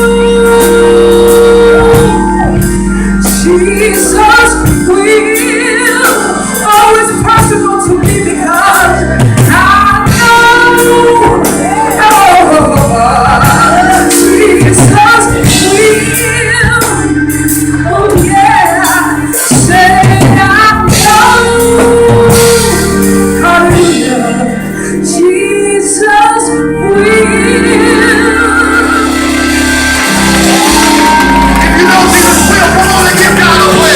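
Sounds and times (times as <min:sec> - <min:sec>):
band accompaniment with bass line: 0:00.0 - 0:33.9
gospel group singing: 0:00.0 - 0:33.9.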